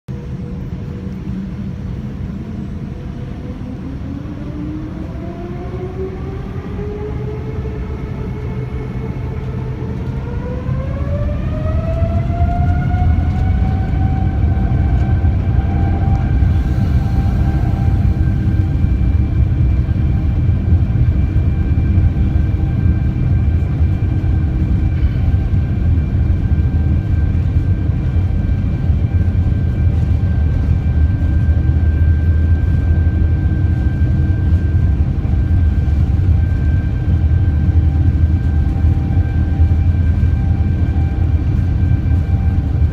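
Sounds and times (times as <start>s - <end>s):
jet engine whine rising: 0.1s - 42.9s
loud low engine rumble: 0.1s - 42.9s.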